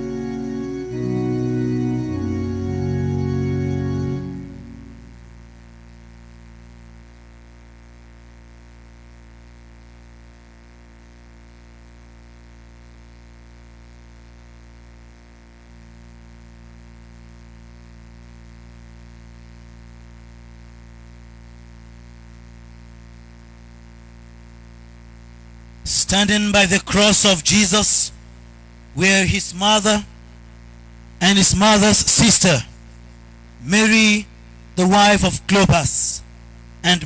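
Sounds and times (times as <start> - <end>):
electrical hum and buzz: 0.0 - 37.0.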